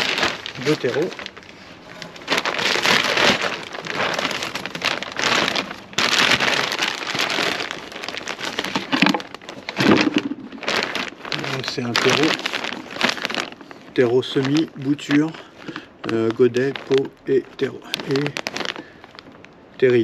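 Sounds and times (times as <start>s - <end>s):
dry compost pouring into plastic: 0.0s - 19.3s.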